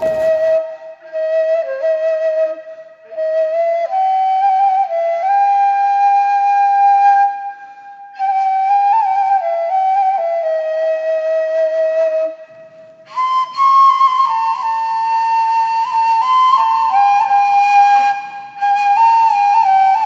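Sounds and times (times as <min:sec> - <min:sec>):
solo flute slow melody: 0:00.0 - 0:20.0.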